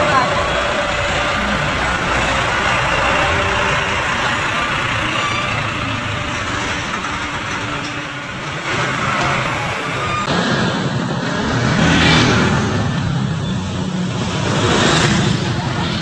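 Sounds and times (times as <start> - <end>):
truck passing close by: 0.0 - 16.0.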